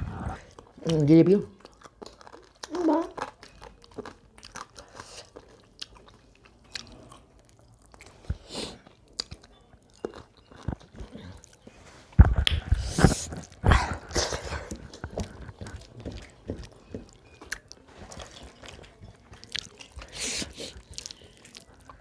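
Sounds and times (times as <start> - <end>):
chewing and crunching food: 0.2 - 22.0.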